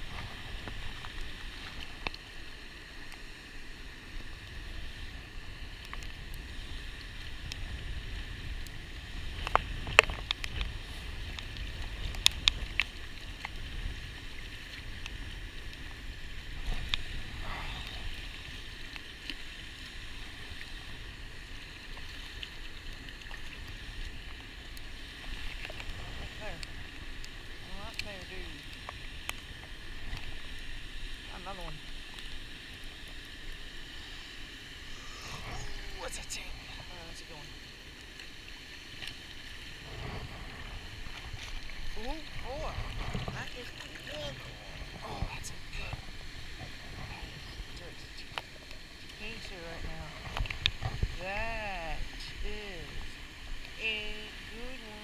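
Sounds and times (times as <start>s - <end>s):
light rain hissing: 0.0s - 55.0s
wind rumbling on microphone: 0.0s - 55.0s.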